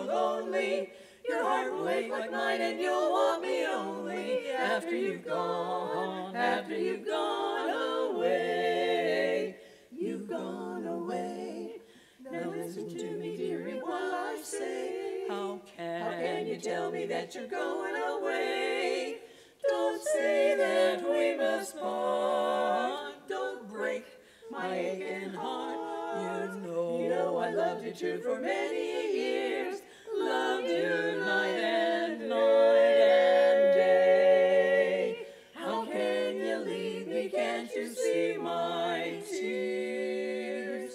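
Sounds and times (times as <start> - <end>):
women singing a cappella harmony: 0.0 - 40.9.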